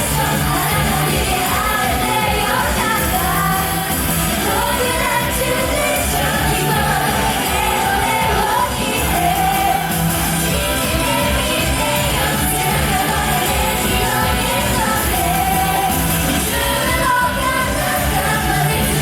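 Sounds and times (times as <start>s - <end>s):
live pop-rock music with vocals: 0.0s - 19.0s.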